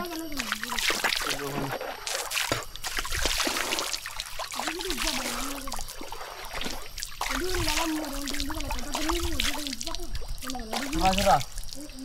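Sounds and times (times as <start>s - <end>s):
stream water over rocks: 0.0s - 12.0s.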